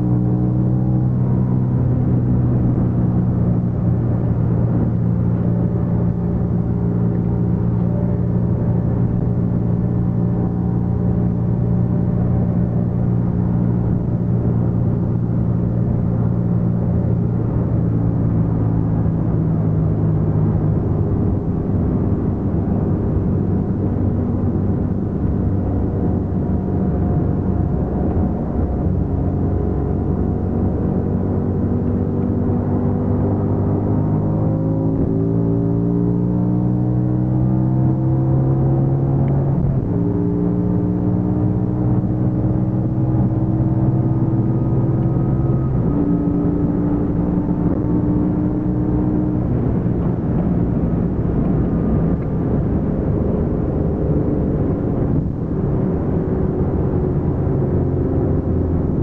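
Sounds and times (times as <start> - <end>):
car engine at speed from cabin: 0.0 - 59.0.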